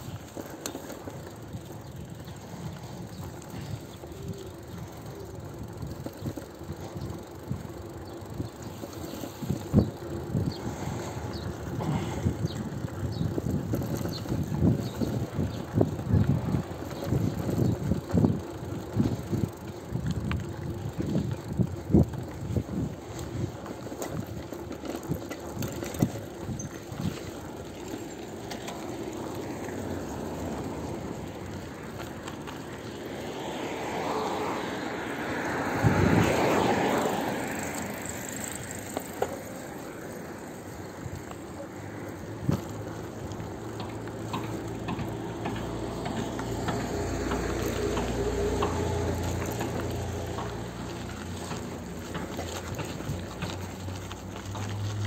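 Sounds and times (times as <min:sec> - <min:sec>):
road and air rush: 0:00.0 - 0:55.0.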